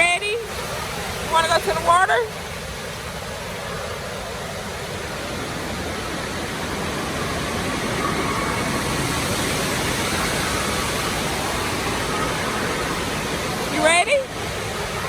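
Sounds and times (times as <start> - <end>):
falling and splashing water: 0.0 - 15.0.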